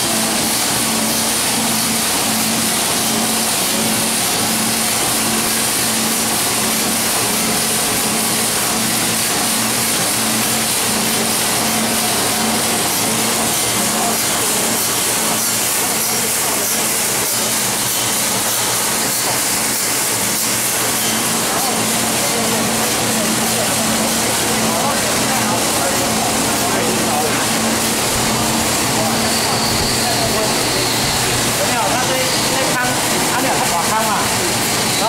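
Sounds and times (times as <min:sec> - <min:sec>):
rotating drum churning: 0:00.0 - 0:35.0.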